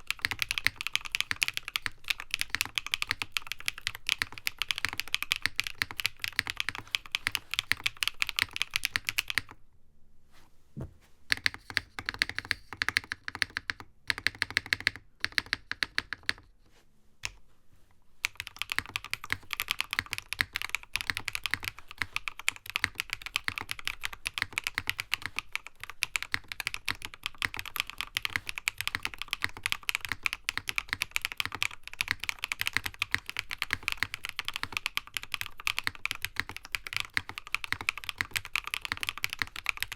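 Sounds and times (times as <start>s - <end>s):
mechanical keyboard typing: 0.0s - 9.6s, 11.3s - 16.5s, 18.2s - 39.9s.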